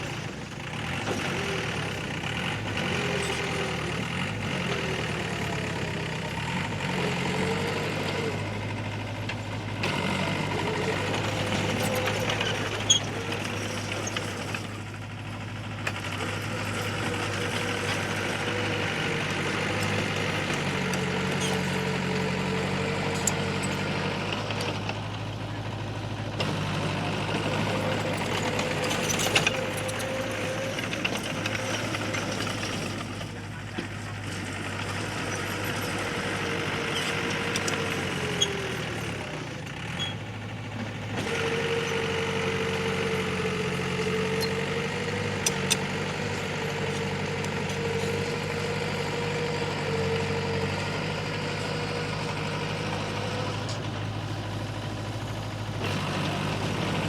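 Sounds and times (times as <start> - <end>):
diesel engine whining: 0.0 - 57.0.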